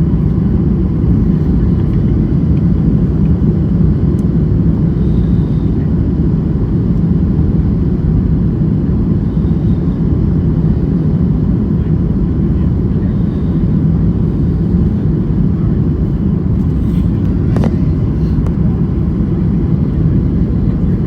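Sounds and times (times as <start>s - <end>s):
airliner engines rumbling: 0.0s - 21.0s.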